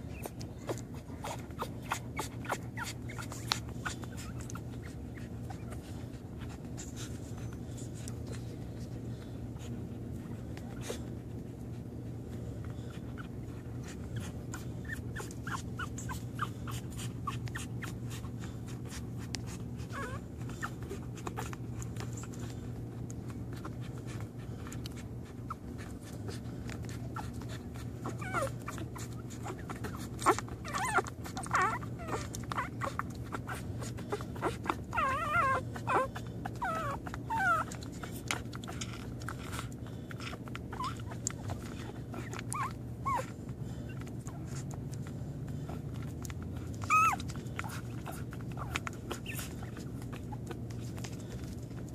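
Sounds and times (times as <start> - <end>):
puppies squeaking and whimpering: 0.0 - 51.9
steady low hum: 0.0 - 51.9.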